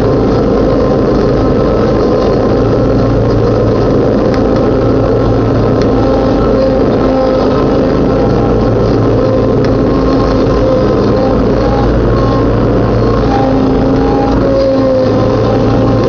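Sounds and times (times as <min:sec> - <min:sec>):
riding lawnmower engine running: 0:00.0 - 0:16.0.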